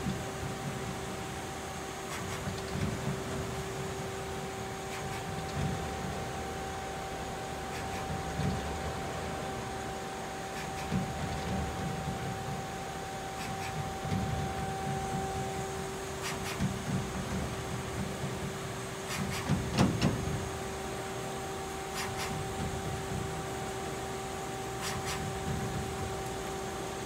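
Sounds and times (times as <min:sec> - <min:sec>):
machine spindle whine: 0:00.0 - 0:27.0.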